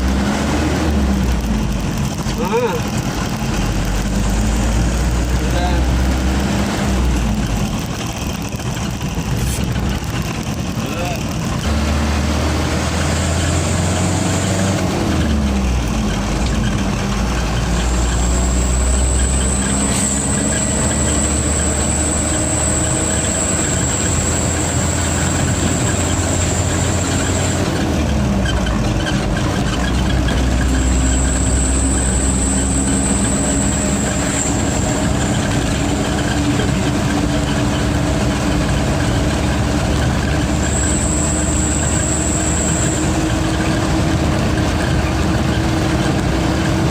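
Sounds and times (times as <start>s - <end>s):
diesel truck engine: 0.0s - 46.9s
high turbo whine: 0.0s - 46.9s.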